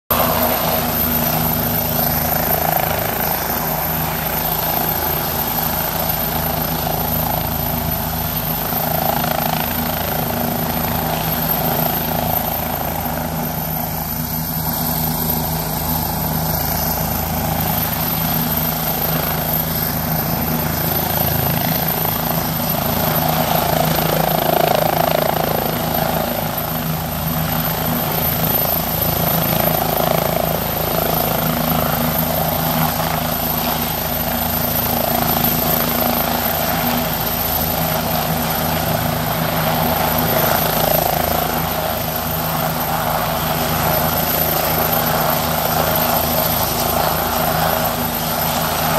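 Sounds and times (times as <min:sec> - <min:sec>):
helicopter hovering: 0:00.0 - 0:48.9.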